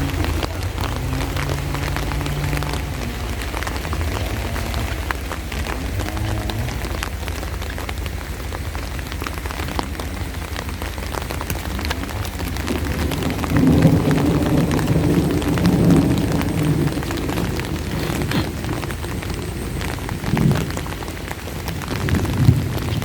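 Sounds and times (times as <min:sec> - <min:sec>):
low rumble: 0:00.0 - 0:23.0
rain hitting an umbrella: 0:00.0 - 0:23.0.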